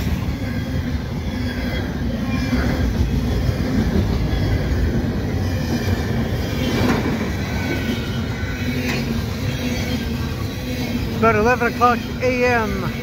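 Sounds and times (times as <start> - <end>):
faint high wheel squeal: 0.0 - 13.0
steel wheels rumbling on rail: 0.0 - 13.0.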